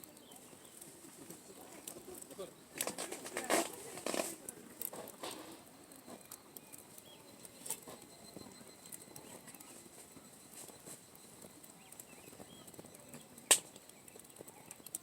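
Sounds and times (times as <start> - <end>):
campfire crackling and snapping: 0.0 - 15.0.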